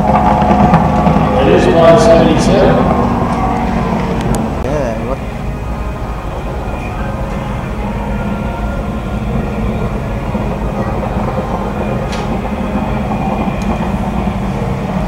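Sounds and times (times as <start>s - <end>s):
outboard engine drone: 0.0s - 15.0s.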